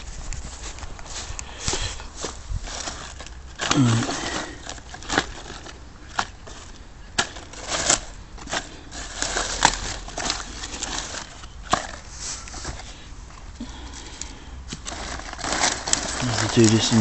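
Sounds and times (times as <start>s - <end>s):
leaves and netting rustling: 0.0s - 17.0s.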